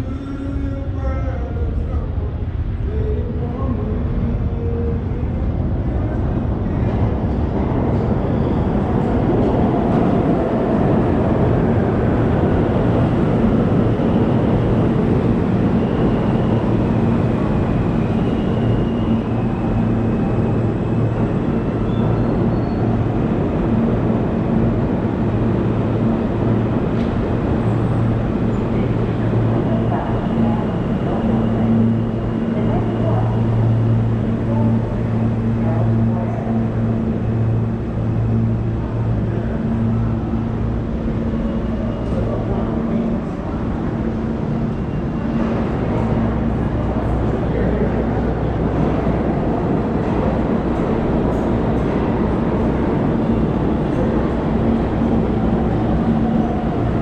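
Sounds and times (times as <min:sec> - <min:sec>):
subway train rumble and rail clatter: 0:00.0 - 0:57.0.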